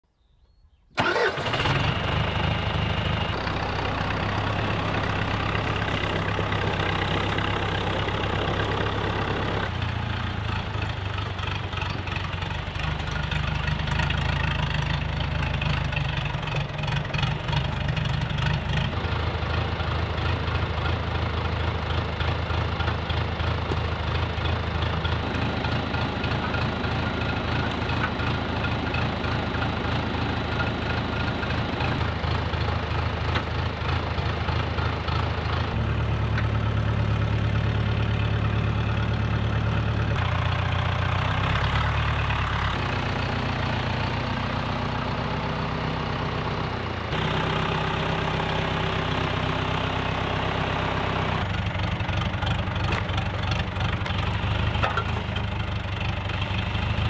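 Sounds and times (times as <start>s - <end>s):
tractor diesel engine starting: 0.9s - 57.0s.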